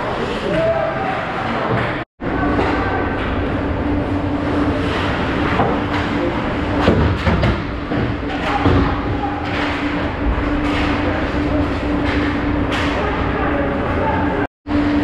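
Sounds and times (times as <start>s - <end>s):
steady low hum: 2.2s - 15.0s.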